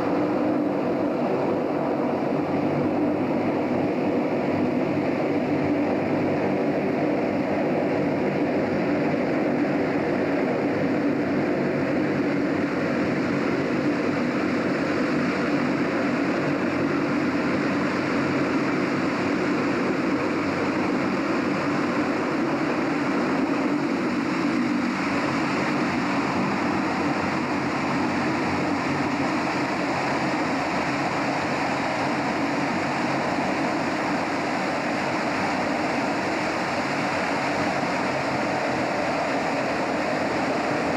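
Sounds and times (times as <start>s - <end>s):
boat engine drone: 0.0s - 40.9s.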